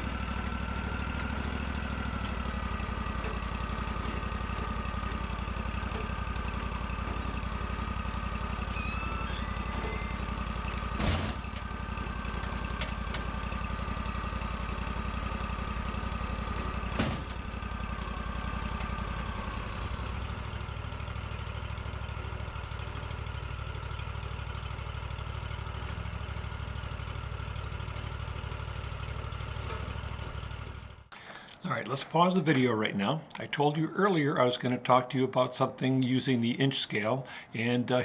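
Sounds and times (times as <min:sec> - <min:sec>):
sawmill engine running: 0:00.0 - 0:34.8.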